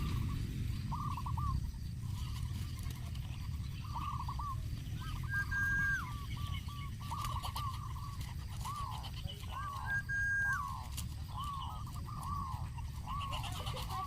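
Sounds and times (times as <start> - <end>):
birds calling: 0.0 - 14.0
steady low rumble: 0.0 - 14.0.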